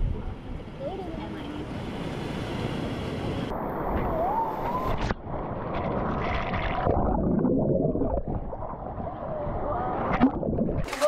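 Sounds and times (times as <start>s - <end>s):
wind on microphone: 1.8s - 10.9s
sea water splashing and churning: 1.8s - 11.0s.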